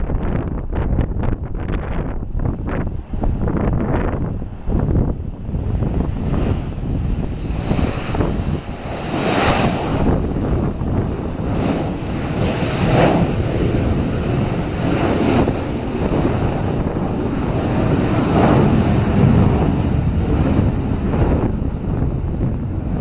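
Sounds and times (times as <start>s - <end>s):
jet airliner taking off: 0.0s - 23.0s.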